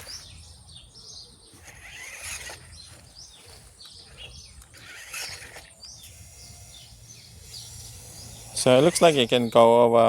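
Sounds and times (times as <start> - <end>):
outdoor background noise: 0.0 - 10.0
small birds chirping: 0.0 - 10.0
rough scraping bursts: 1.5 - 9.8.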